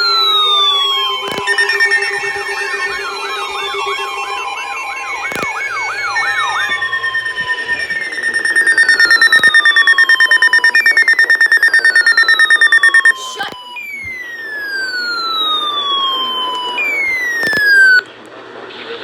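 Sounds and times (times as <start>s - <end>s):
electronic siren yelp: 0.0s - 18.1s
rapid pulsing alarm beeps: 0.0s - 18.1s
steady high tone: 0.0s - 18.1s.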